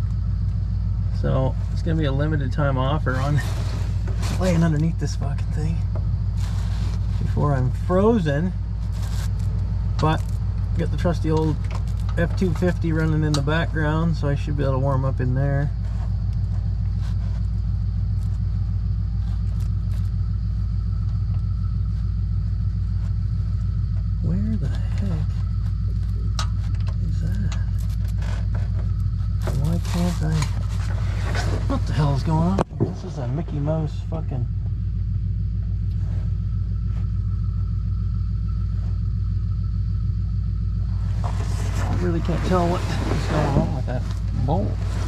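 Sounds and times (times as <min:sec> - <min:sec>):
pickup truck engine idling: 0:00.0 - 0:45.0.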